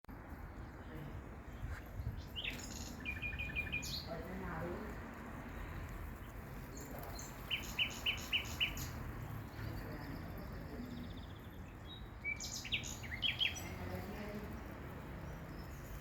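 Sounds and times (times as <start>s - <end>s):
steady background noise: 0.1s - 16.0s
bird chirping: 0.8s - 5.0s, 6.2s - 16.0s.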